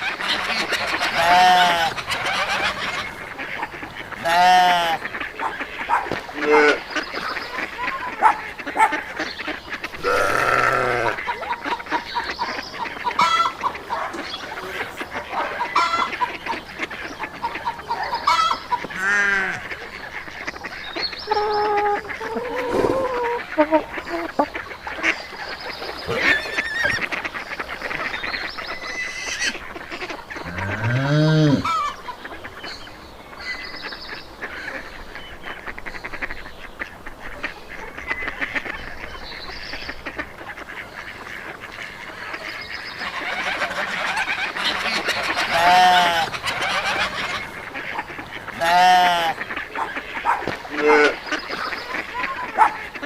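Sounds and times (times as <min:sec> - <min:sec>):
farmyard fowl calling: 0:00.0 - 0:53.0
geese honking: 0:00.0 - 0:53.0.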